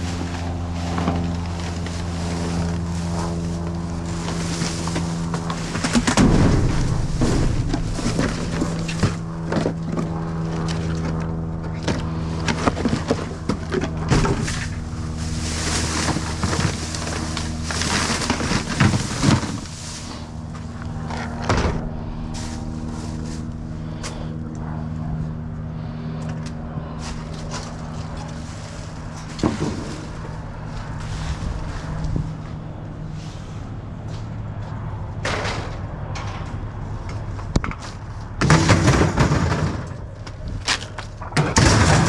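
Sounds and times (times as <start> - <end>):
knocks and rustling handling noise: 0.0 - 23.6, 27.0 - 42.0
vehicle engine running: 0.0 - 42.0.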